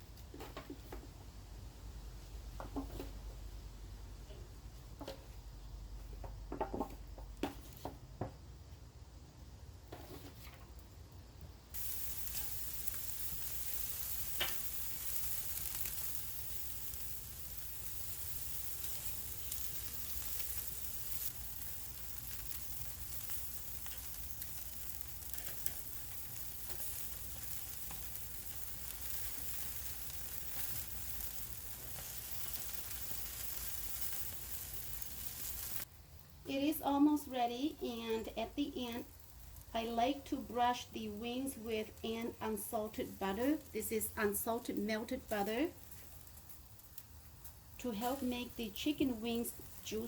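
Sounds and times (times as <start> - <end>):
chicken wings sizzling on grill: 9.9 - 50.0.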